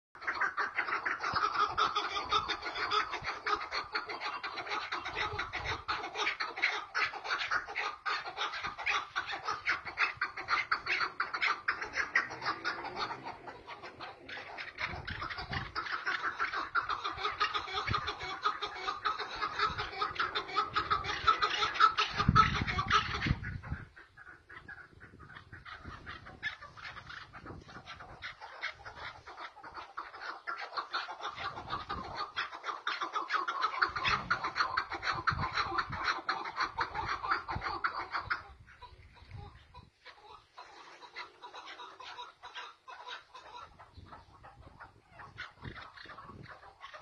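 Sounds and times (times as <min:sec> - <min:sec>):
partridges calling: 0:00.2 - 0:47.0.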